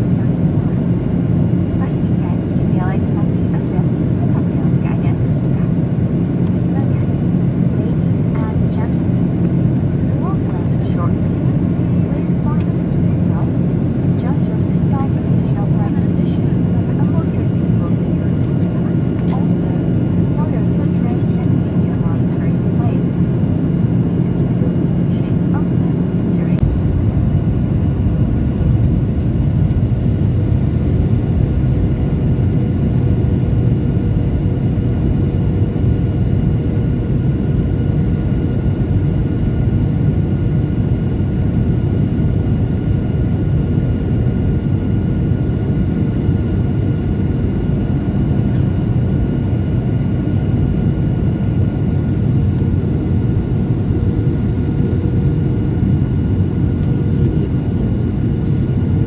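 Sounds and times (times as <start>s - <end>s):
faint steady whining tones: 0.0s - 59.0s
jet airliner cabin noise: 0.0s - 59.0s.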